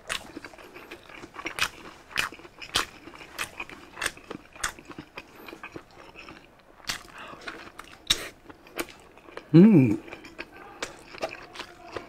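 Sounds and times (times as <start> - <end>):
person chewing with mouth smacks: 0.0 - 12.0.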